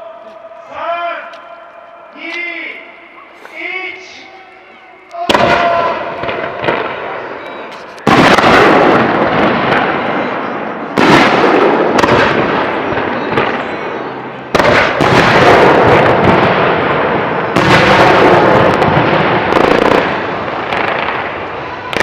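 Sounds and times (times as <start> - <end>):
fireworks crackling: 2.2 - 22.0.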